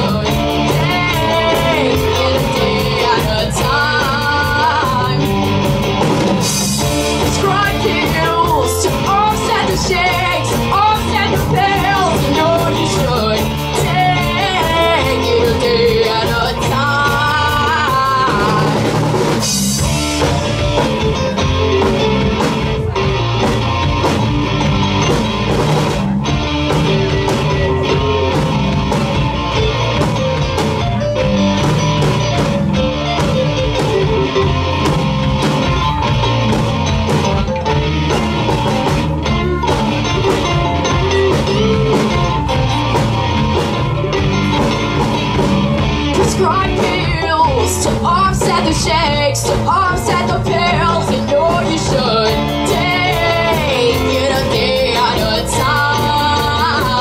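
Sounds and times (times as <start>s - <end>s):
drums and cymbals: 0.0s - 57.0s
rock band playing: 0.0s - 57.0s.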